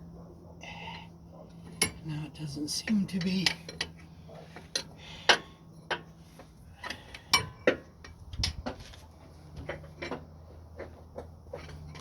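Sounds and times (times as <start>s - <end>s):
metal tools clanking on metal: 1.5s - 12.0s.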